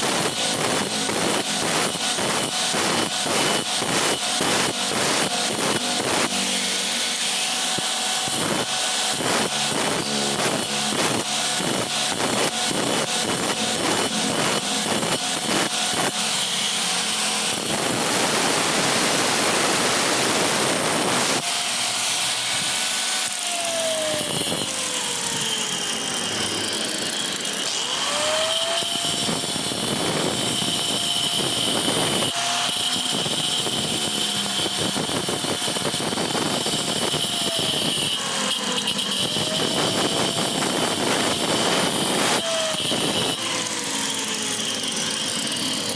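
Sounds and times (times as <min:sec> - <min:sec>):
steady grinding noise: 0:00.0 - 0:45.9
tool whine: 0:00.0 - 0:45.9.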